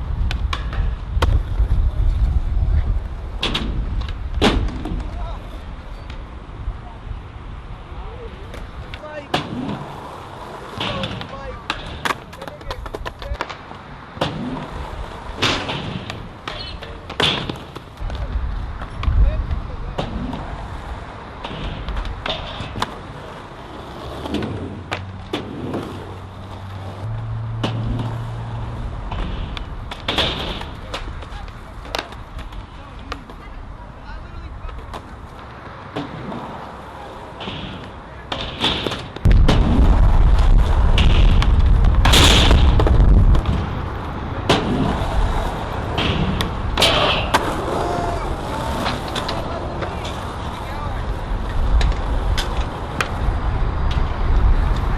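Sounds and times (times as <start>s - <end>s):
skateboard clacking on ground: 0.0s - 39.6s, 40.4s - 54.9s
skateboard wheels on concrete: 0.0s - 54.9s.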